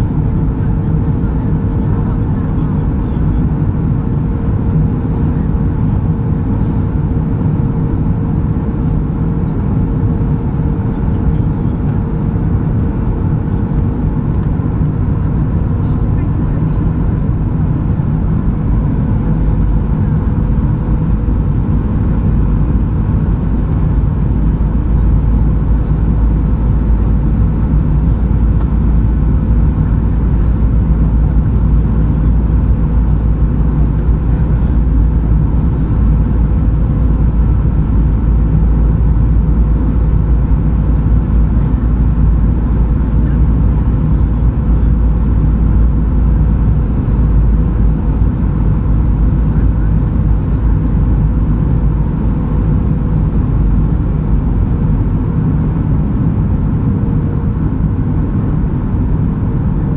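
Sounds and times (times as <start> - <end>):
airplane cabin engine rumble: 0.0 - 59.9
steady hum: 0.0 - 59.9.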